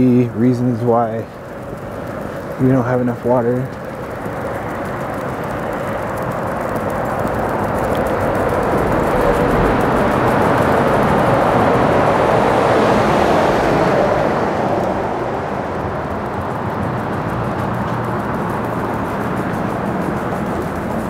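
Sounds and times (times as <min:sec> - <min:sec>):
truck passing by: 0:00.0 - 0:21.0.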